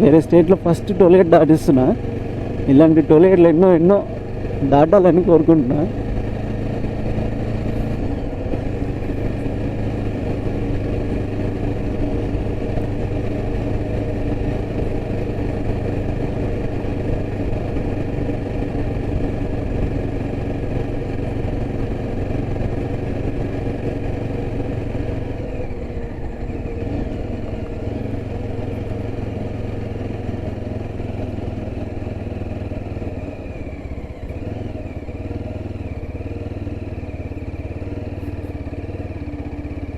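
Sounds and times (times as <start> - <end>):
motorcycle engine running: 0.0 - 39.9
road and wind rumble: 0.0 - 39.9.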